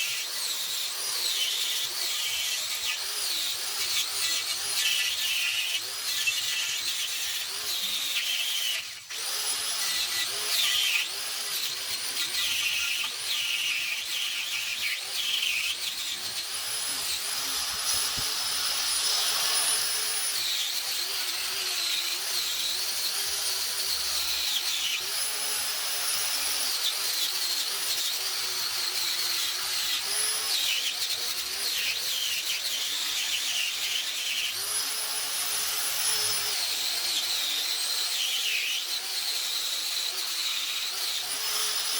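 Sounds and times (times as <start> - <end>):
power tool whining: 0.0 - 41.9.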